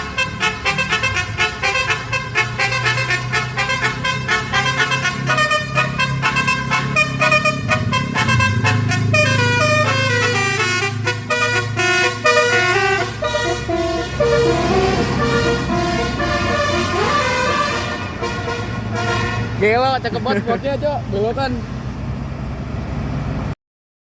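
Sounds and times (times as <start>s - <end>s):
bus horn playing a tune: 0.0s - 20.6s
bus engine running: 0.0s - 23.6s.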